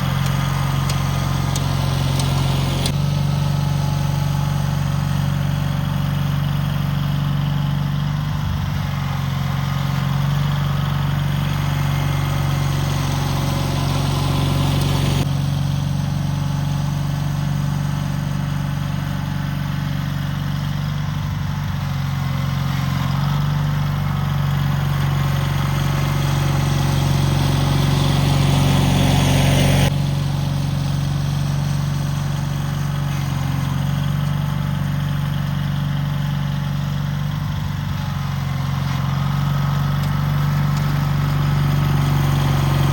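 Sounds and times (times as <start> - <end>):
garden tractor engine running: 0.0 - 42.9.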